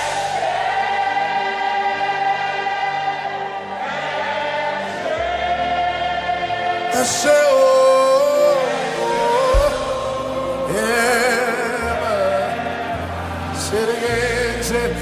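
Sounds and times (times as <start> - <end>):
choir and congregation singing: 0.0 - 15.0
lead voice singing: 0.0 - 15.0.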